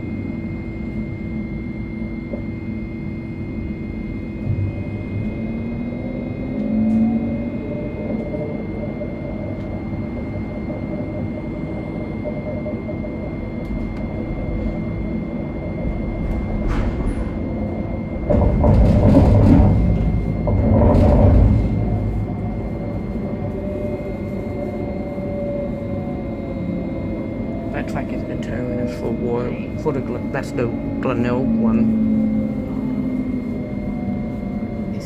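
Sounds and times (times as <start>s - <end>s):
faint steady tones: 0.0s - 35.0s
tram rumbling along track: 0.0s - 35.0s.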